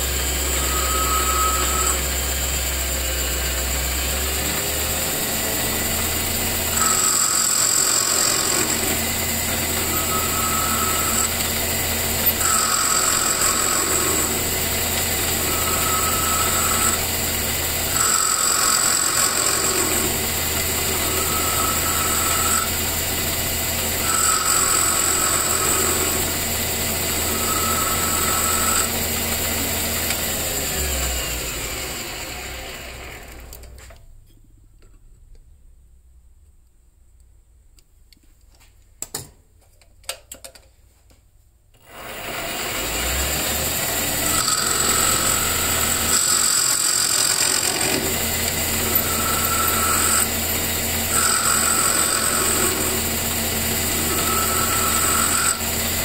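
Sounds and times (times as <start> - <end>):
metal lathe humming: 0.0 - 33.5, 41.9 - 56.0.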